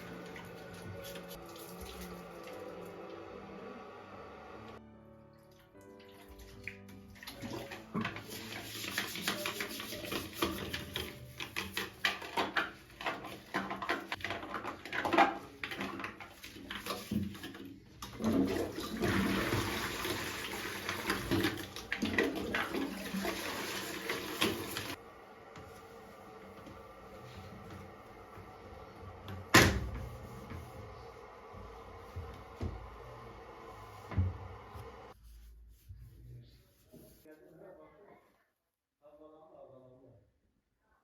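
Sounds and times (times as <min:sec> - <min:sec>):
water running: 0:00.0 - 0:35.2.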